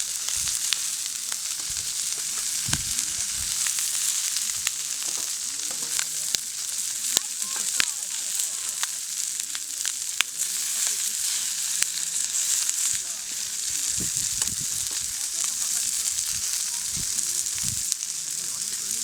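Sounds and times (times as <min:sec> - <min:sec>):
food sizzling over fire: 0:00.0 - 0:19.0.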